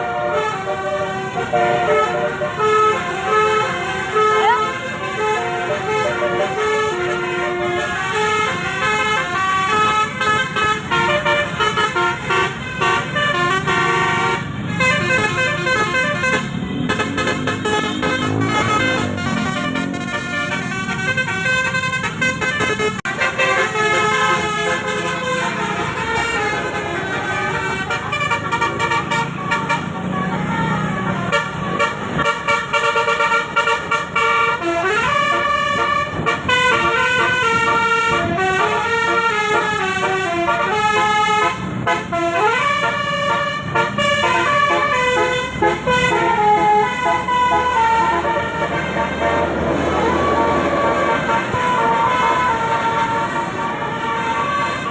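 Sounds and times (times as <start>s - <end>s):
musical air horns playing tune: 0.0s - 54.9s.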